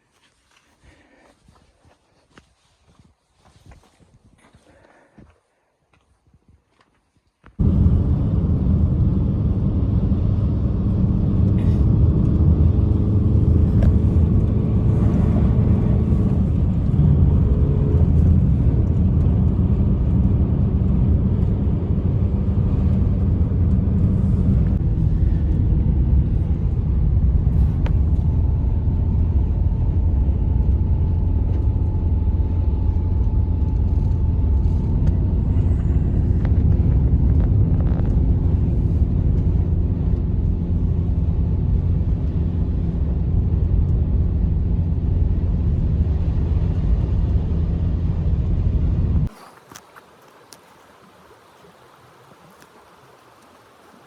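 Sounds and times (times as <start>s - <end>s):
blizzard wind rumbling: 7.6s - 54.0s.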